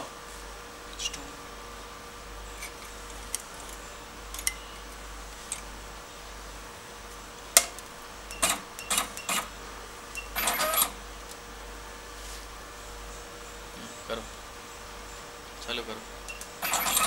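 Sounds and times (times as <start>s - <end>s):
machine humming faintly: 0.0s - 17.0s.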